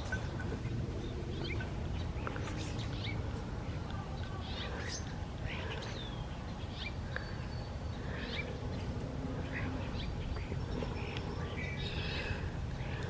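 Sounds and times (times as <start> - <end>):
birds calling: 0.0 - 13.0
steady low rumble: 0.0 - 13.0.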